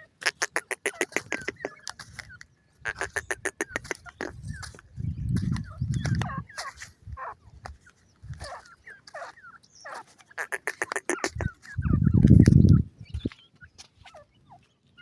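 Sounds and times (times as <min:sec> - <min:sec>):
francolins chirping calls: 0:00.0 - 0:15.0.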